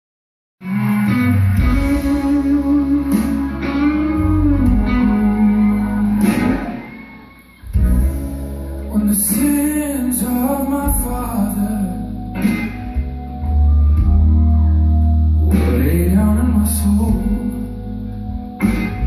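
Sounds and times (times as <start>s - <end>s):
guitar with bending notes: 0.6s - 19.0s
low bass notes: 0.8s - 19.0s.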